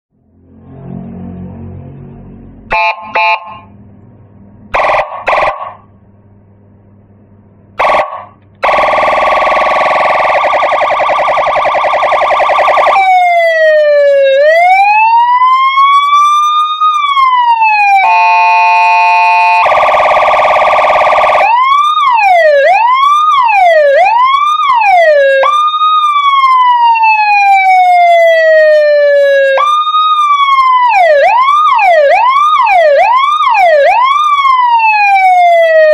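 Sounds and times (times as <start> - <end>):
electronic siren through horn speaker: 0.4 - 3.8, 4.7 - 5.9, 7.8 - 35.9.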